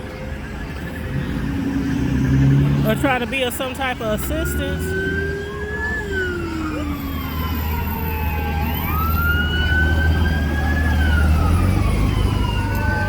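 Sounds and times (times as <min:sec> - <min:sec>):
emergency vehicle siren wailing: 0:00.0 - 0:13.0
low engine rumble: 0:00.0 - 0:13.0.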